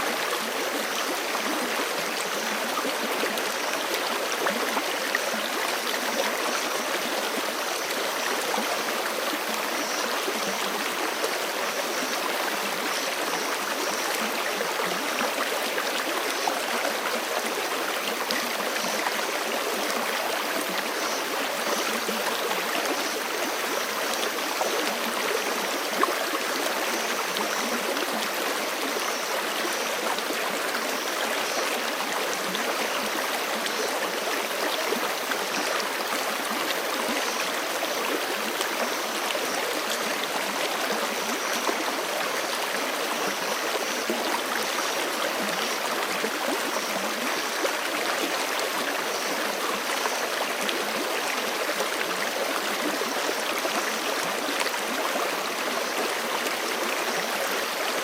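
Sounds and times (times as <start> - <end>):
creek flowing: 0.0 - 58.0.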